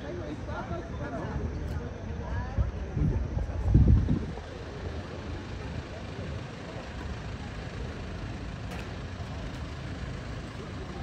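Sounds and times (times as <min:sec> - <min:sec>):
murmur of voices: 0:00.0 - 0:11.0
street traffic rumble: 0:00.0 - 0:11.0.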